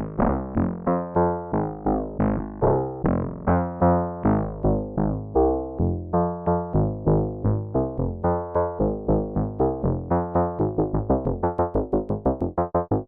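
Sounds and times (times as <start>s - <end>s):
plucked synthesizer notes: 0.0s - 13.0s.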